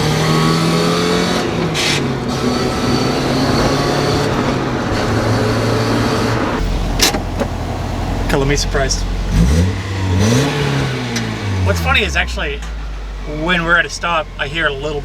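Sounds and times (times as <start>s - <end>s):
car engine from inside cabin: 0.0s - 15.0s.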